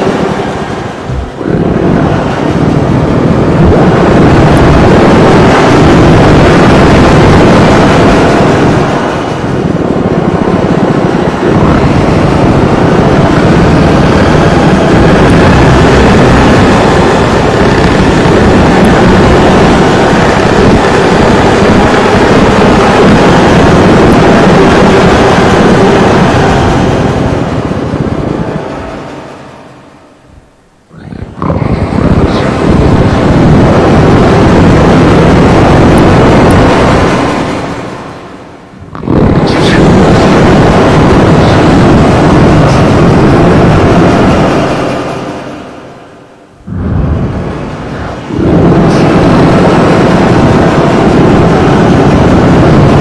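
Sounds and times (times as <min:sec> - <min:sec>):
harsh distorted noise music: 0:00.0 - 0:09.0, 0:10.0 - 0:53.0.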